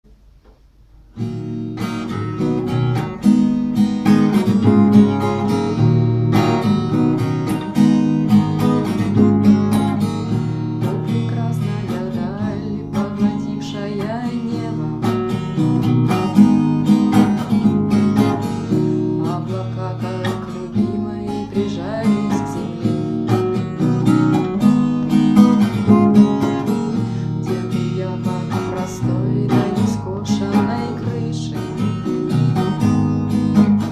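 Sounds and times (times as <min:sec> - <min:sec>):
rock song with strummed guitar: 0:01.2 - 0:33.9.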